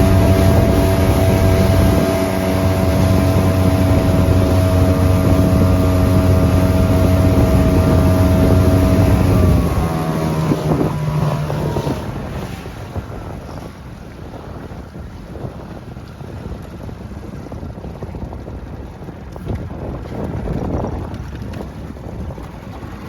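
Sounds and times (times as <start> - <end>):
outboard motor running: 0.0 - 23.0
water noise: 0.0 - 23.0
wind on microphone: 0.0 - 23.0.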